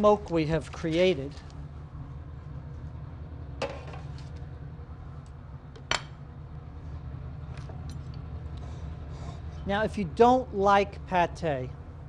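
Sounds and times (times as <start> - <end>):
kitchen exhaust fan running: 0.0 - 12.0.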